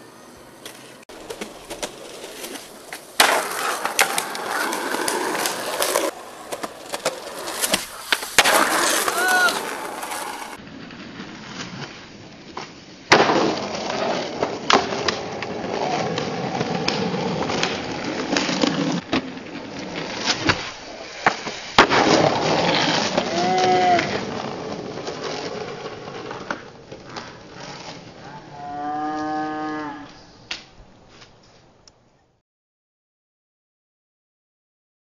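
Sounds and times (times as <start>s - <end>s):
skateboard impacts: 0.0s - 28.3s
skateboard wheels rolling: 0.0s - 28.7s.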